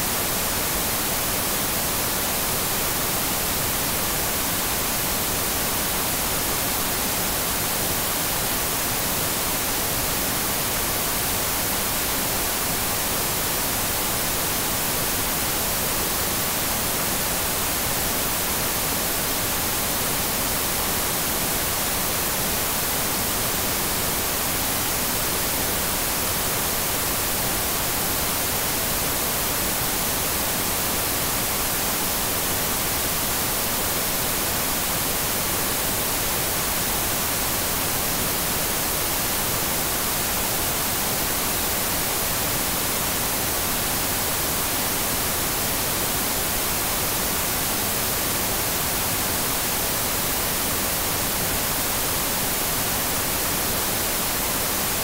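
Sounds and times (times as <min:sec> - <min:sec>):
television static hiss: 0:00.0 - 0:55.0.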